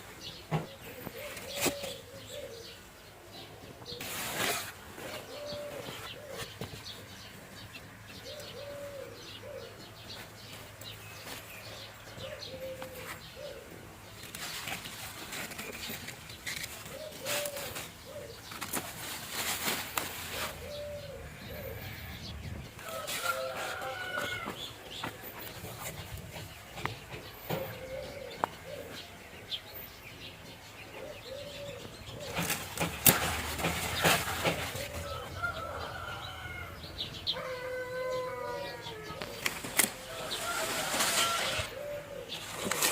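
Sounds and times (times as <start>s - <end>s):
doves cooing: 0.3s - 10.8s, 11.6s - 42.9s.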